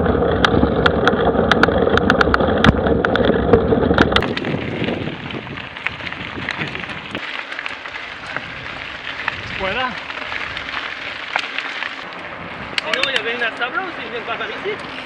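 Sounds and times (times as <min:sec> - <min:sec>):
wind noise on microphone: 0:00.0 - 0:07.3, 0:07.9 - 0:11.4, 0:12.0 - 0:13.4
bike tyres rolling on gravel: 0:00.0 - 0:15.0.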